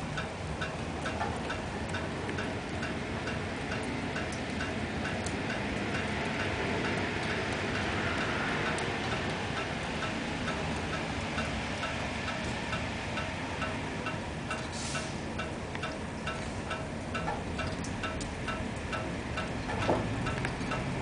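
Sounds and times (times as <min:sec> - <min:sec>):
light regular ticking: 0:00.1 - 0:21.0.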